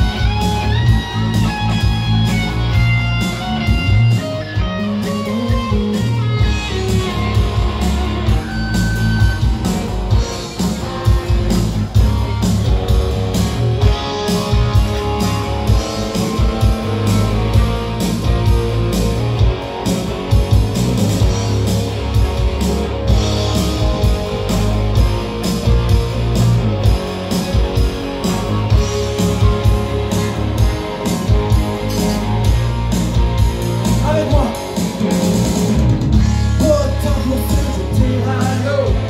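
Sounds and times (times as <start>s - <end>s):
drum kit beat: 0.0s - 39.0s
electric guitar: 0.0s - 39.0s.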